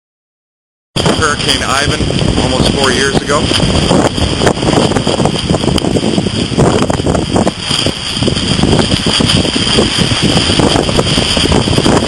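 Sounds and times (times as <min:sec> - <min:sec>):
heavy surf rumbling: 0:01.0 - 0:12.0
strong wind buffeting microphone: 0:01.0 - 0:12.0.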